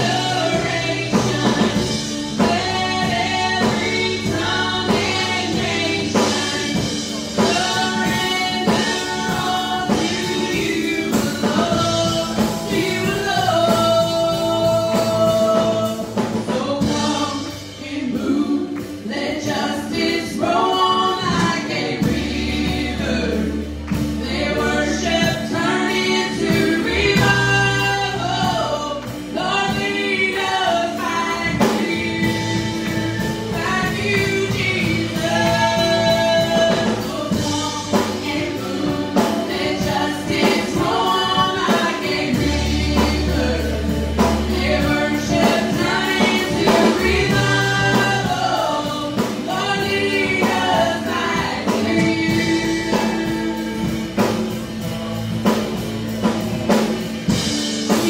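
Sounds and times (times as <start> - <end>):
keyboard and band accompaniment: 0.0 - 58.0
sustained bass notes: 0.0 - 58.0
women singing together: 0.0 - 58.0.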